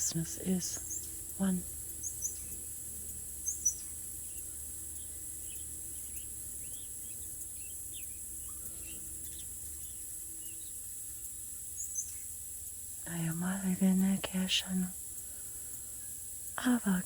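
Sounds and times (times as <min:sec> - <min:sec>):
high-pitched insect drone: 0:00.0 - 0:17.0
small birds chirping: 0:00.0 - 0:17.0.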